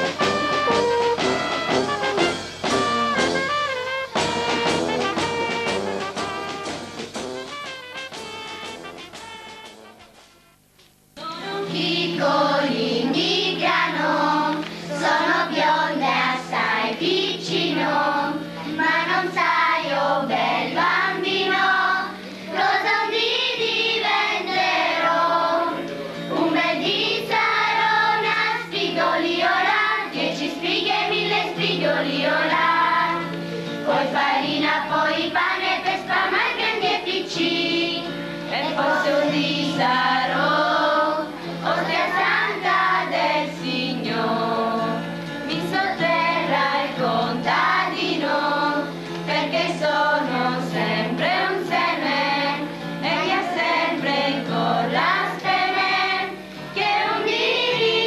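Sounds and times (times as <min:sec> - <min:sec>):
girls choir singing a hymn: 0:11.2 - 0:58.0.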